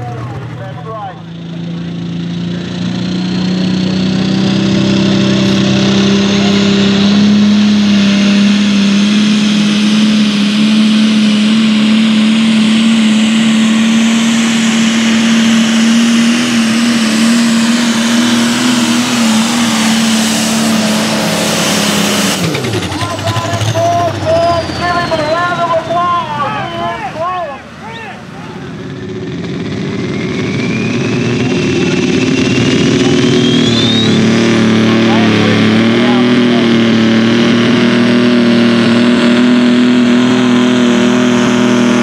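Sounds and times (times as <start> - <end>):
tractor diesel engine high-revving: 0.0 - 42.0.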